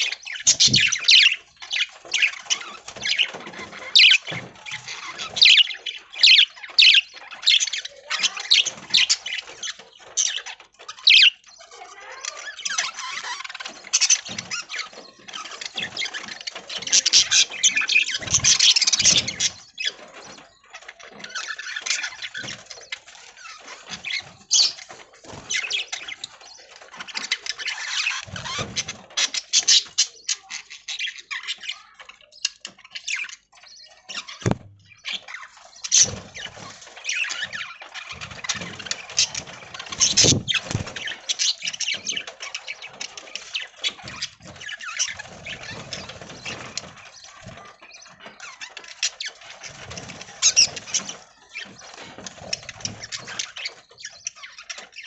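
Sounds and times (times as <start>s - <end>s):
budgerigars chattering and squawking: 0.0s - 55.0s.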